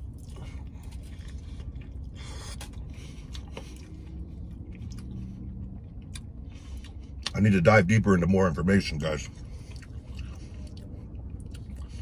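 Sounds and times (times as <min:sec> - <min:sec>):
man biting and chewing: 0:00.0 - 0:07.4, 0:09.4 - 0:12.0
steady low rumble: 0:00.0 - 0:12.0.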